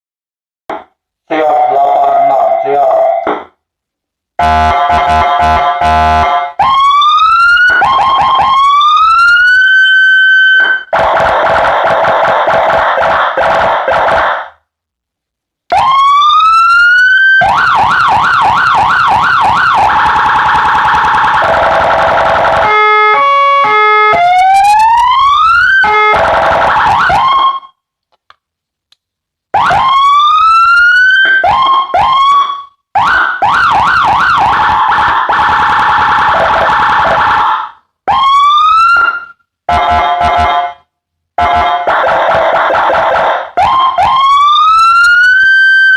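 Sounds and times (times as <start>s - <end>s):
electronic police siren: 1.3s - 3.3s, 4.4s - 14.6s, 15.7s - 27.8s, 29.6s - 45.9s.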